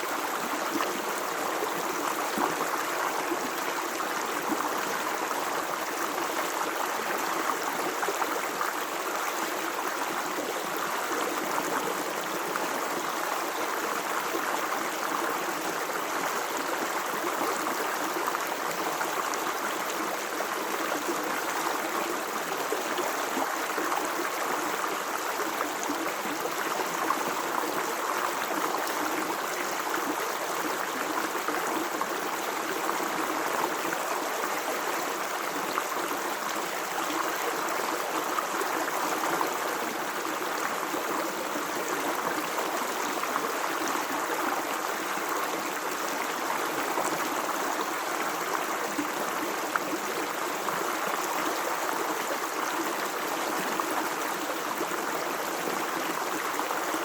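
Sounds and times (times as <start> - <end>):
water flowing in a stream: 0.0 - 57.0.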